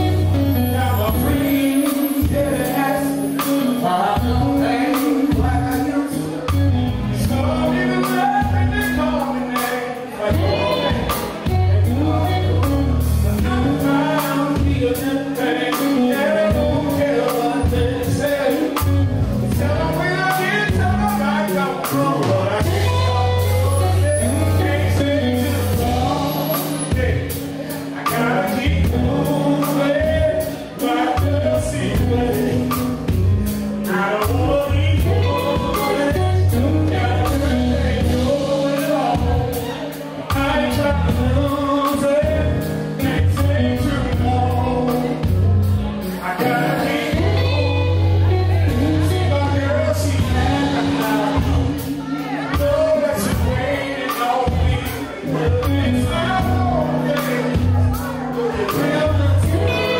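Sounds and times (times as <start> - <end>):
live band playing: 0.0 - 59.9
person singing: 0.0 - 59.9.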